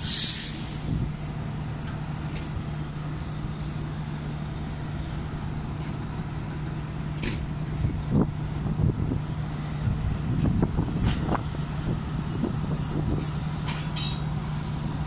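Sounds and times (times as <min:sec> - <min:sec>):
diesel locomotive engine drone: 0:00.0 - 0:15.0
passenger coaches rolling past: 0:00.0 - 0:15.0.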